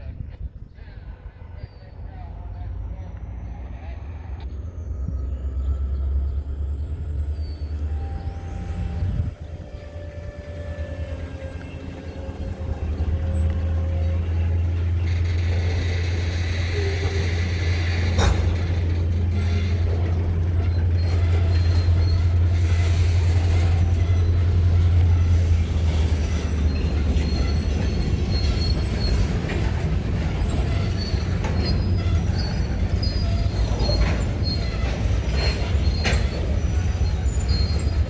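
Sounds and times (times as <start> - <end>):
locomotive engine drone: 0.0 - 38.0
wheel squeal: 2.9 - 38.0.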